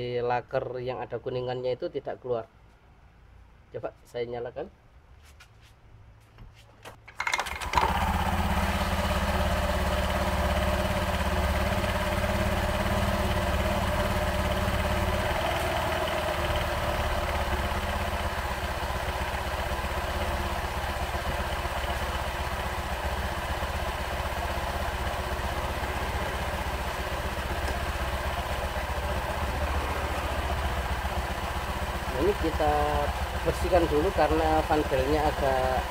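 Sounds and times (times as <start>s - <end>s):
scooter engine starting and idling: 7.0s - 35.9s.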